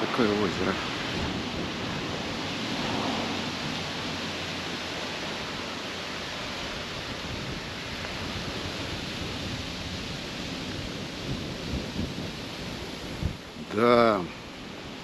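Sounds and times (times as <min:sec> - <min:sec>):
steady rushing noise: 0:00.0 - 0:15.0
unsteady low rumble: 0:00.0 - 0:15.0.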